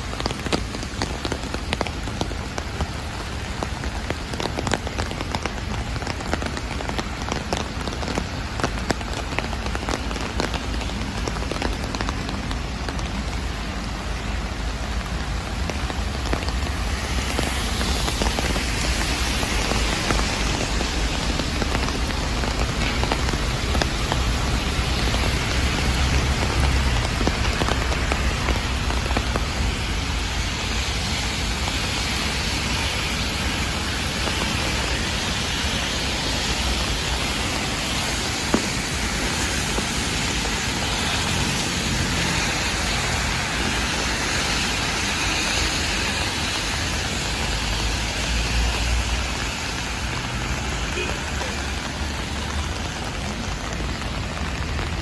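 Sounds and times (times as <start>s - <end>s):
heavy rain on a street: 0.0s - 55.0s.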